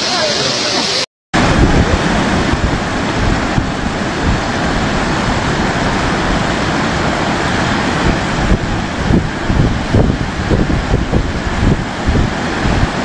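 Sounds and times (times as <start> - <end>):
flood torrent roaring: 0.0 - 13.0.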